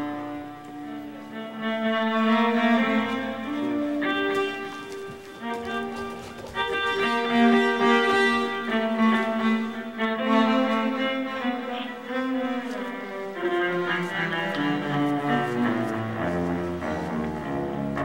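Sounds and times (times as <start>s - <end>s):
cello sustained notes: 0.0s - 18.0s.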